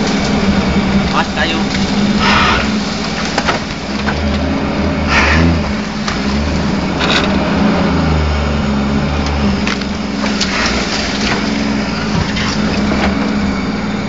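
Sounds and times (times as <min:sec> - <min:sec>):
branches scraping vehicle body: 0:00.0 - 0:14.0
off-road vehicle engine under load: 0:00.0 - 0:14.0.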